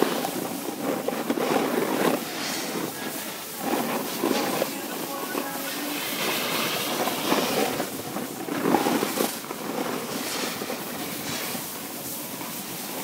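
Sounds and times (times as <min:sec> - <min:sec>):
edges scraping over packed snow: 0:00.0 - 0:13.0.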